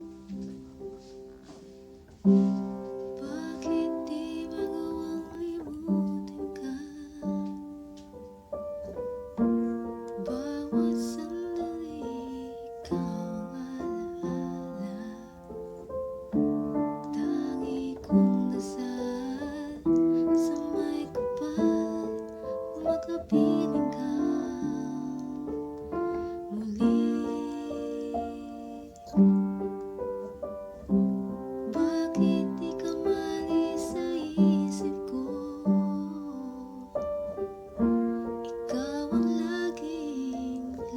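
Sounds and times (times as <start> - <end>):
piano chords played slowly: 0.0 - 40.9
soft breathy singing voice: 2.2 - 7.9, 9.4 - 29.6, 30.2 - 40.9.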